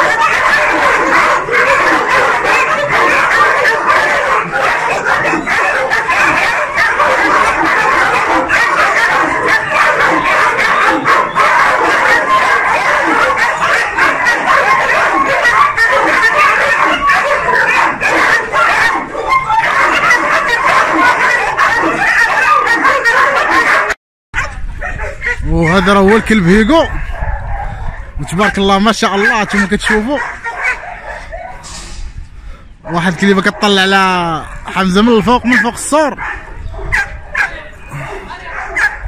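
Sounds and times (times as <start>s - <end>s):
dogs barking and yapping: 0.0s - 39.0s.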